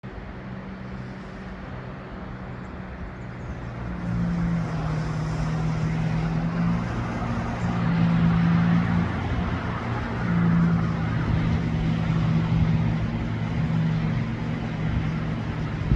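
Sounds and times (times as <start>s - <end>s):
jet ski engines droning: 0.0s - 15.9s.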